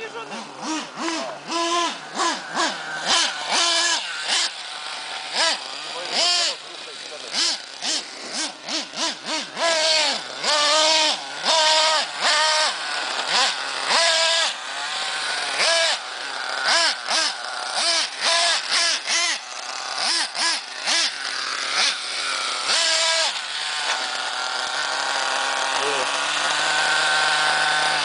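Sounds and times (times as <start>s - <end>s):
small nitro engine revving: 0.0s - 28.0s.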